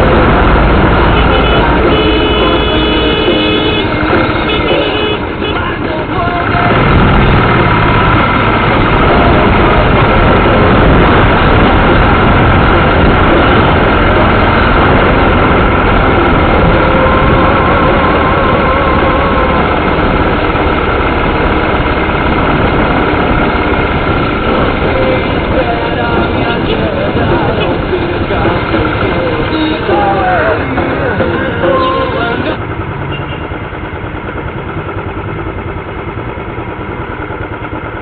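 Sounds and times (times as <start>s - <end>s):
wind and rain noise: 0.0s - 2.3s, 5.3s - 38.0s
motorcycle engine running: 0.0s - 38.0s.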